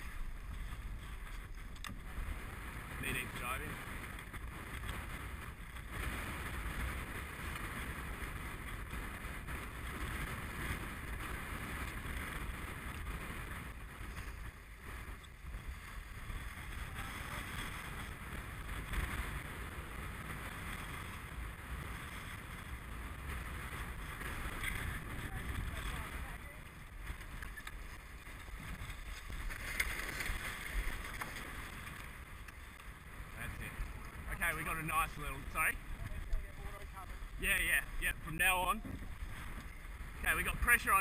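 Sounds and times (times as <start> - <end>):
wind noise on microphone: 0.0 - 41.0.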